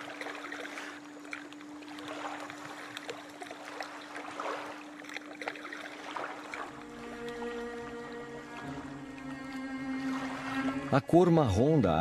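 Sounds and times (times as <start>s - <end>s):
low hum: 0.0s - 12.0s
river water splashing: 0.0s - 12.0s.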